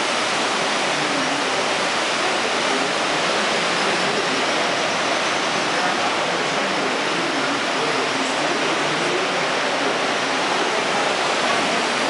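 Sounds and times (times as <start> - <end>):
ocean surf roaring in a cave: 0.0 - 12.0.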